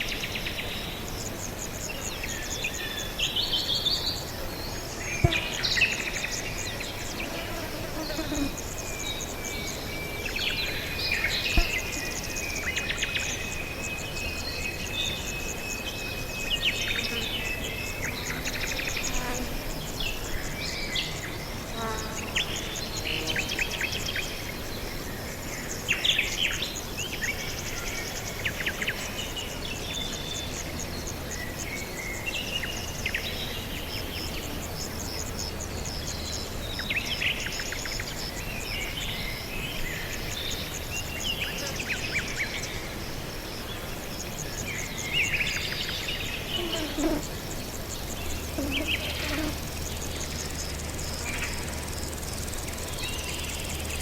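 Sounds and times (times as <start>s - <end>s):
insects calling: 0.0s - 54.0s.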